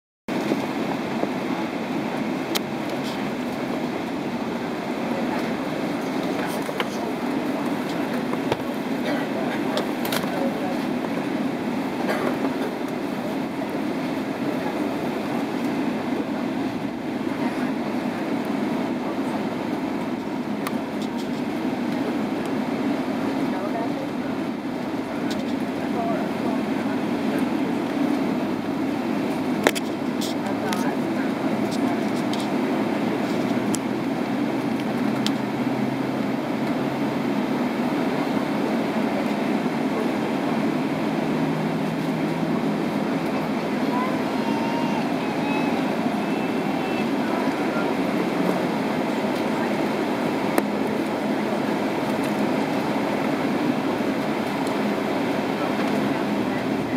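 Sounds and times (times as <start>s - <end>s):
airplane cabin rumble: 0.3s - 56.9s
cabin air conditioning: 0.3s - 56.9s
jet engines at low power: 0.3s - 56.9s.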